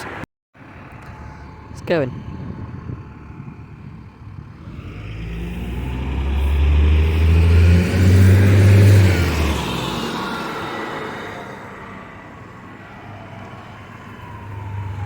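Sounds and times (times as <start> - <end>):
diesel train engines pulling away: 0.0 - 15.0.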